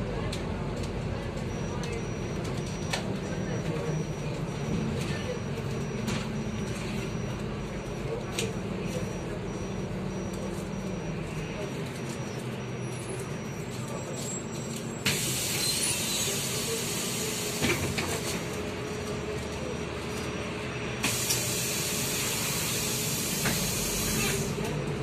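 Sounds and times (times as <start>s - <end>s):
bus running hum: 0.0s - 25.0s.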